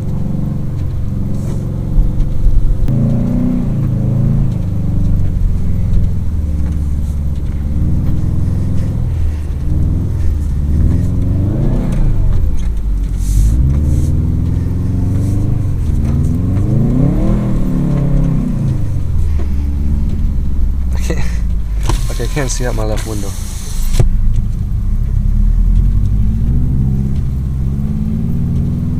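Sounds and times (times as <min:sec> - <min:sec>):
car engine revving from inside cabin: 0:00.0 - 0:28.9.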